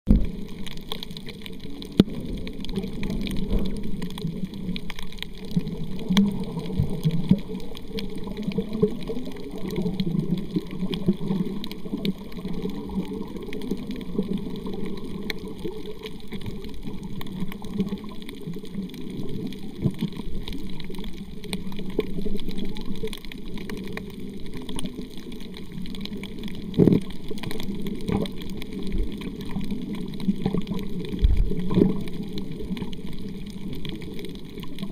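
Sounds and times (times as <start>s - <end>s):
faint underwater clicks: 0.1s - 34.9s
underwater sloshing and gurgling: 0.1s - 34.9s.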